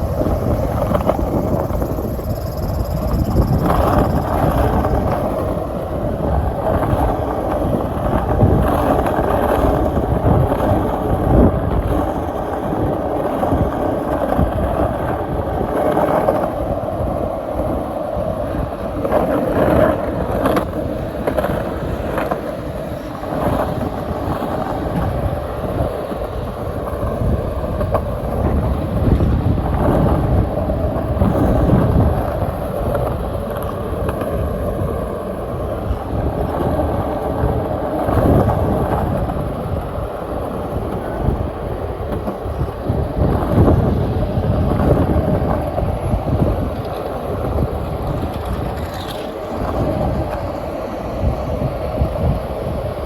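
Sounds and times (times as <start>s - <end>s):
skateboard wheels rolling: 0.0s - 53.0s
wind buffeting microphone: 0.0s - 53.0s.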